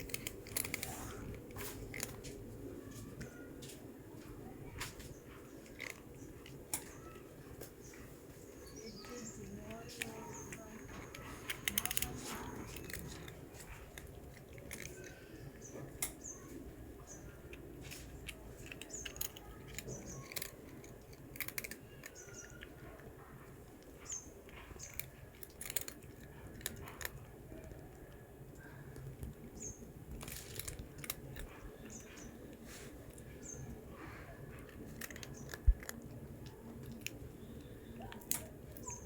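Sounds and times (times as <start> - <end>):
cat crunching snack: 0.0 - 39.0
small birds chirping: 0.0 - 39.0.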